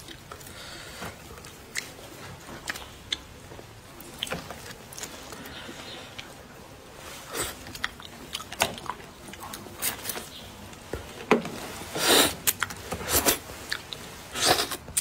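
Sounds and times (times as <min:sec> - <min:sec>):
quiet chewing: 0:00.0 - 0:11.3, 0:11.9 - 0:15.0.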